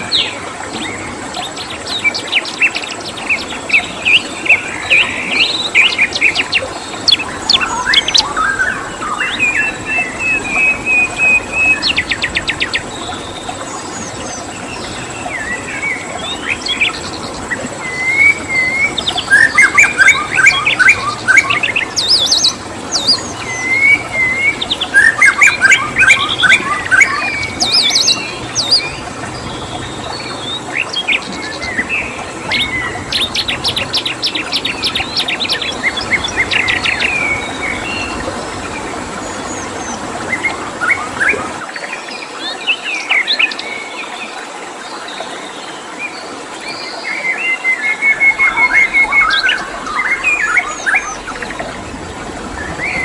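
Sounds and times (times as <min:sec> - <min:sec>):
songbirds chirping and singing: 0:00.0 - 0:44.2, 0:46.2 - 0:53.0
steady background hiss: 0:00.0 - 0:53.0.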